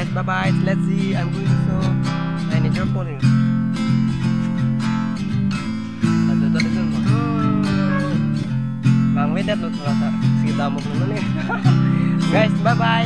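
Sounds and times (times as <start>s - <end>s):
strummed acoustic guitar chords: 0.0s - 13.0s.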